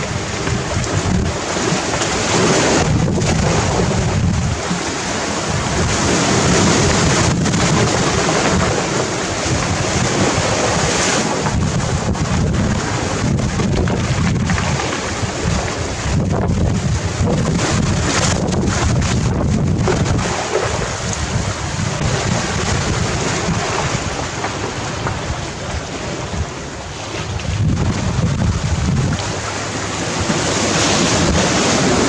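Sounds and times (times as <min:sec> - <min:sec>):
waves breaking on pebble beach: 0:00.0 - 0:32.0
wind buffeting microphone: 0:00.0 - 0:32.0.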